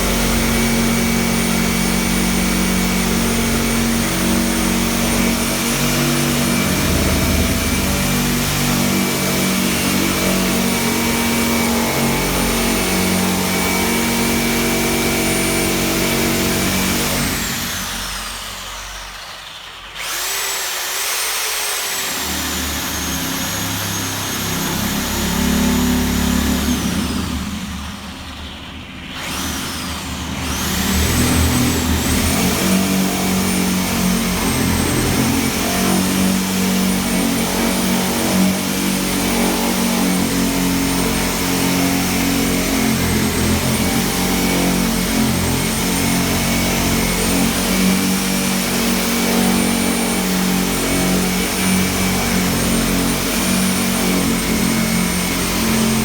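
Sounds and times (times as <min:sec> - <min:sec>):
motor running with high whine: 0:00.0 - 0:56.0.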